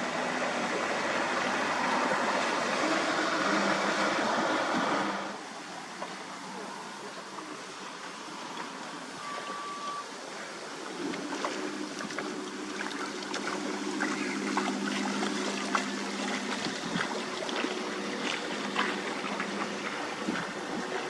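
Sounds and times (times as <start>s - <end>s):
boat engine droning: 0.0s - 21.0s
water splashing and trickling: 0.0s - 21.0s.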